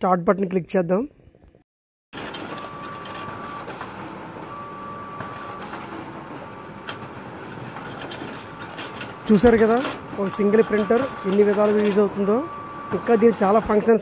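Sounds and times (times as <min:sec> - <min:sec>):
printer mechanical whir: 0:02.2 - 0:14.0
thin printer whine: 0:02.2 - 0:14.0.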